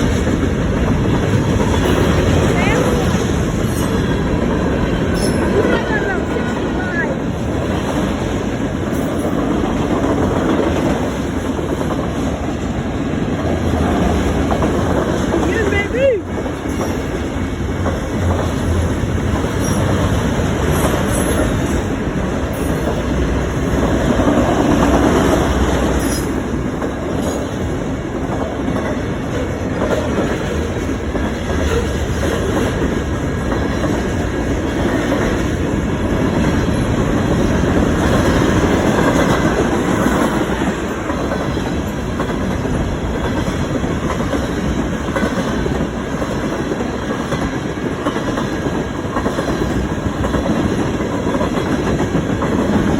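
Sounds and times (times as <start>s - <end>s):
freight train wheels on rails: 0.0s - 52.9s.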